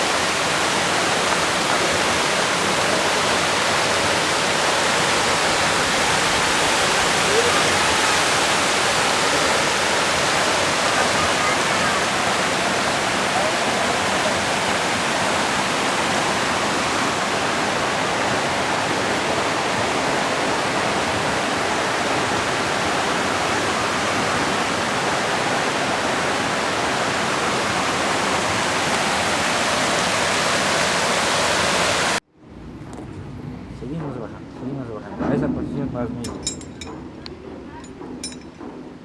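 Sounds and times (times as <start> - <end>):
waterfall rushing: 0.0 - 32.2.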